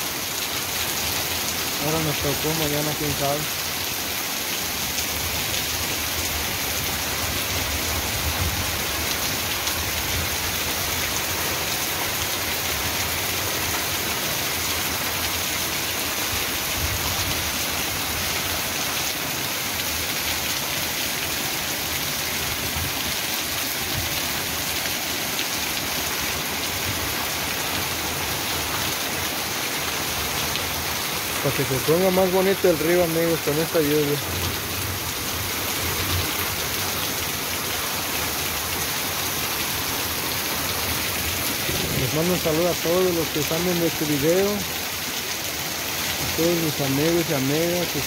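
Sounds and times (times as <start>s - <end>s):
rain falling on dirt: 0.0s - 48.0s.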